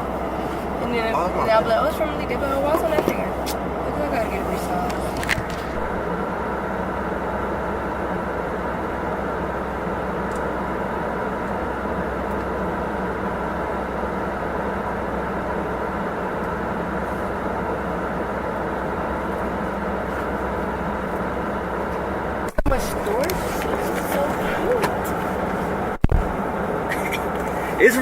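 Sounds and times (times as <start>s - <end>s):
road and engine hum in car: 0.0s - 28.0s.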